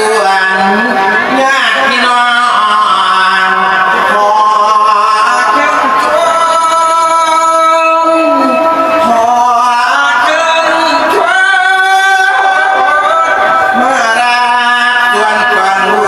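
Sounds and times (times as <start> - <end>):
person chanting into a microphone: 0.0 - 16.0.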